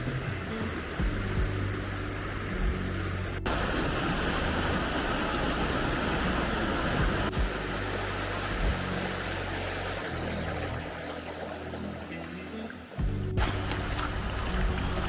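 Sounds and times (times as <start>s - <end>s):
heavy rain hissing: 0.0s - 12.7s
soft background music: 0.0s - 15.0s.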